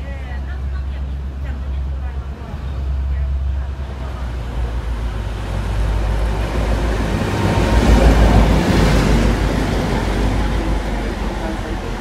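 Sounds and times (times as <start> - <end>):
diesel locomotive engine rumble: 0.0 - 12.0
train wheels on rails: 0.2 - 12.0.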